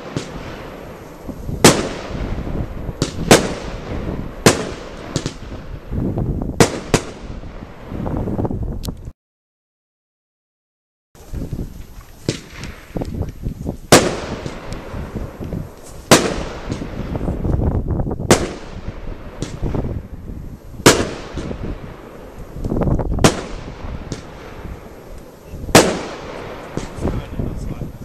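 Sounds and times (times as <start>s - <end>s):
loud firework bangs: 0.0s - 8.6s, 12.2s - 28.0s
firework pops and crackles: 0.0s - 9.1s, 11.2s - 28.0s.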